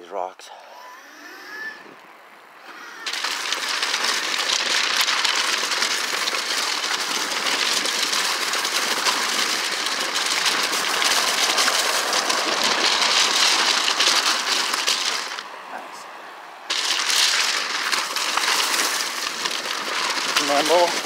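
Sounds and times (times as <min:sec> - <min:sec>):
bicycle tyres rolling over gravel: 0:02.7 - 0:21.0.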